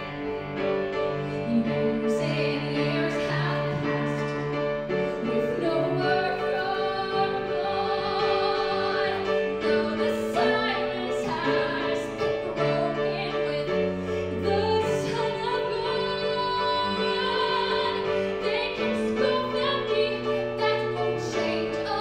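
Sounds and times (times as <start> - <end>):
cello: 0.0 - 22.0
piano: 0.0 - 22.0.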